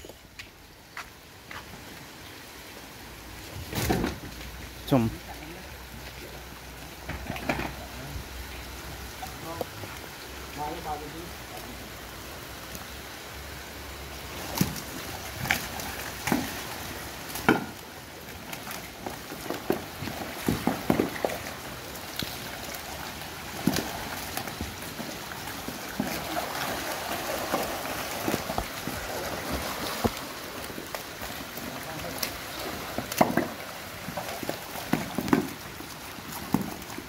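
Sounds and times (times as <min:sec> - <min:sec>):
water splashes: 0:01.6 - 0:37.0.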